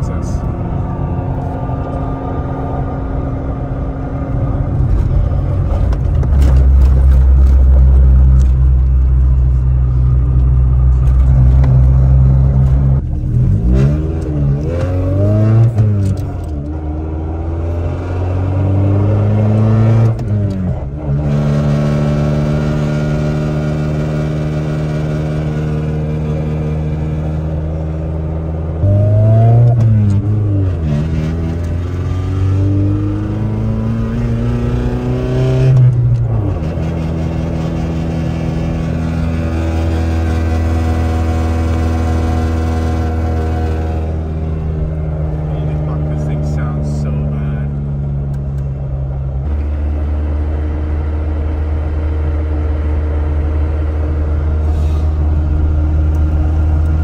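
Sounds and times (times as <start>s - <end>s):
car engine droning and revving: 0.0s - 57.0s.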